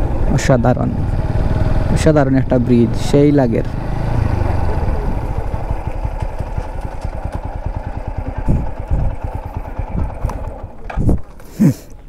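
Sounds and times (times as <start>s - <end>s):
motorcycle engine running slowly: 0.0s - 11.7s.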